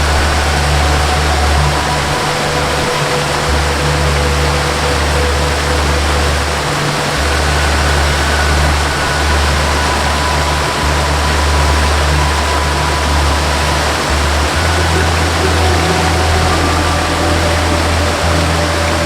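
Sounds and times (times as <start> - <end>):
faint higher held tones: 0.0 - 19.0
soft melody of low held notes: 0.0 - 19.0
waterfall rushing: 0.0 - 19.0.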